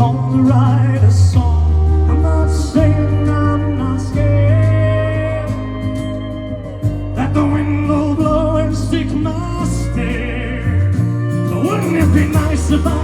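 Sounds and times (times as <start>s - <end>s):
guitar: 0.0s - 13.0s
sustained bass notes: 0.0s - 13.0s.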